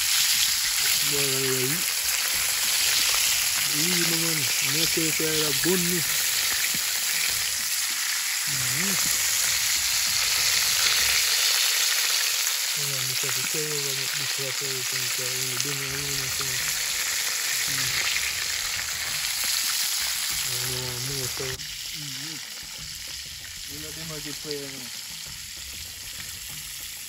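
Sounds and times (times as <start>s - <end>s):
chicken frying in hot oil: 0.0s - 27.0s.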